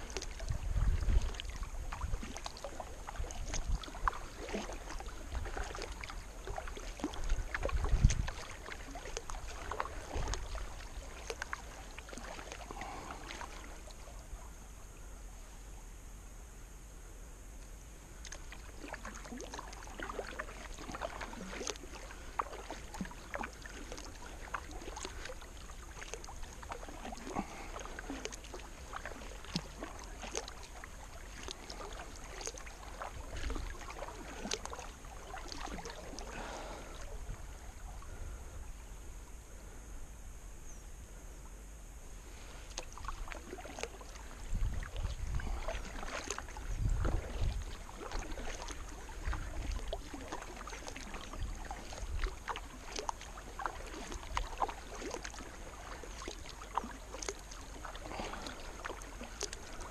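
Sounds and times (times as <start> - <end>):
paddle splashing in water: 0.0 - 14.6, 18.1 - 39.0, 42.2 - 59.9.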